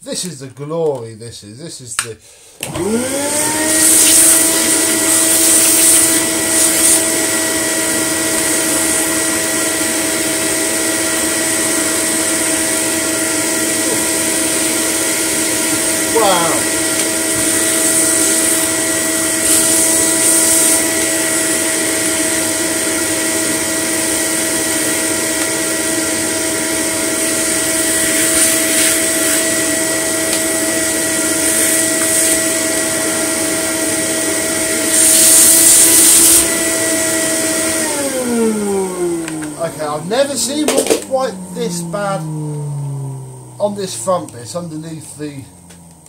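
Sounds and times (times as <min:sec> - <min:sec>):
vacuum hose hissing: 0:02.3 - 0:46.0
vacuum cleaner motor whine: 0:02.6 - 0:46.0.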